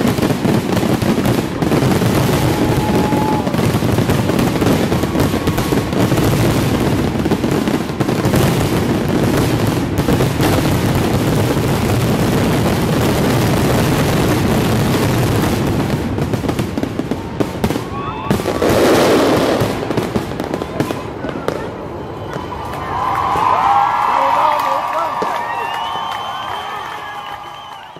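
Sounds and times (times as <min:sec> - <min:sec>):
fireworks booming and crackling: 0:00.0 - 0:23.4.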